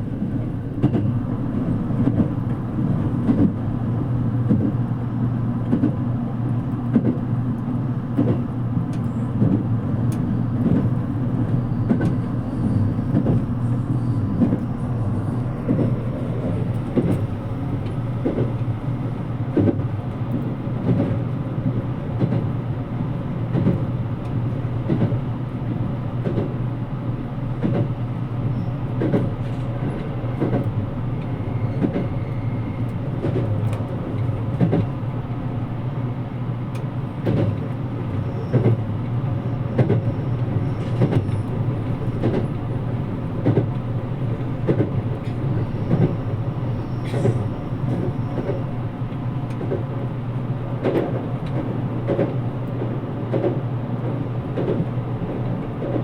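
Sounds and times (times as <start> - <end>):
train wheels rumbling on rails: 0.0 - 56.0
rail-joint clicks: 0.2 - 3.6, 4.4 - 5.0, 5.6 - 6.0, 6.6 - 21.4, 22.1 - 22.5, 23.5 - 25.3, 26.2 - 26.6, 27.6 - 35.6, 36.6 - 56.0.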